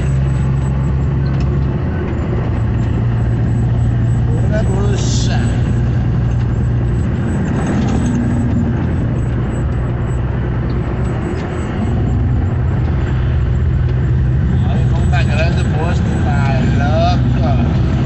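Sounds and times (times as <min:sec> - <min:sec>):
road noise: 0:00.0 - 0:18.0
vehicle engine drone: 0:00.0 - 0:18.0.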